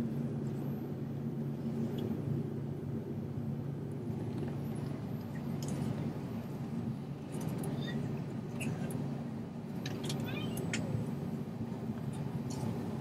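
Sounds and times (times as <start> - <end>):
jet engines humming at idle: 0.0 - 13.0.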